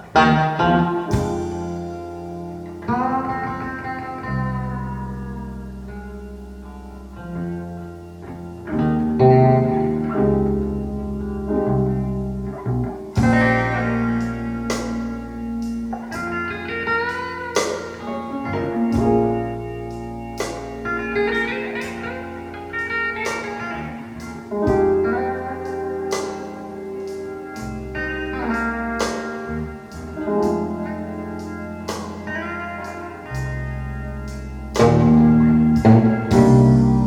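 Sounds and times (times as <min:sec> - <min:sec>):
blues guitar with slides: 0:00.0 - 0:37.0
held bass line: 0:00.0 - 0:37.0.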